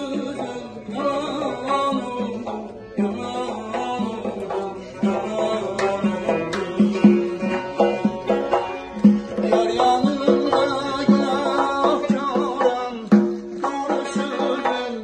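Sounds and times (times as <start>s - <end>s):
accordion playing a melody: 0.0s - 15.0s
drum strokes: 0.0s - 15.0s.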